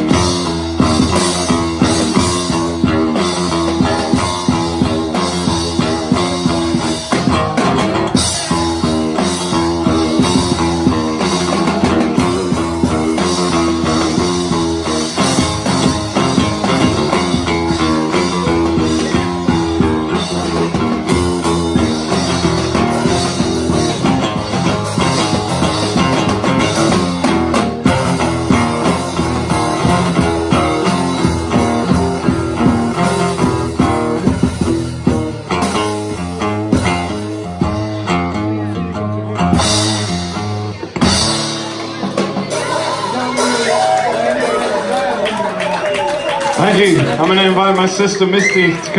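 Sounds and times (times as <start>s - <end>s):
drum kit with cymbals: 0.0s - 44.8s
acoustic guitar strumming: 0.0s - 45.0s.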